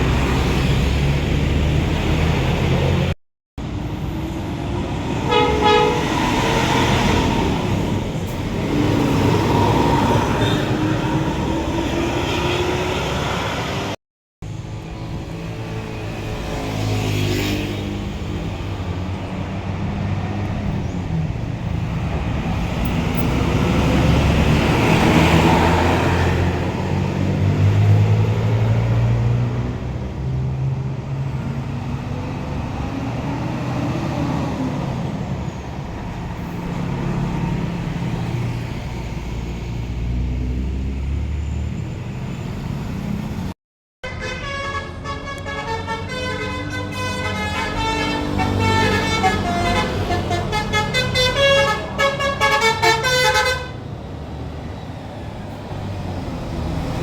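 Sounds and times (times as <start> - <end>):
diesel vehicles driving past: 0.0 - 57.0.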